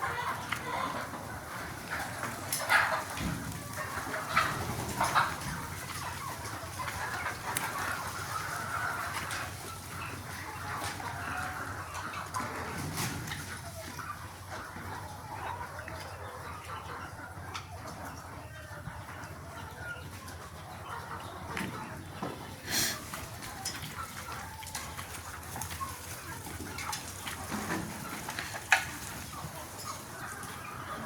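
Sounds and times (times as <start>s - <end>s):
chickens clucking and chirping: 0.0s - 31.0s.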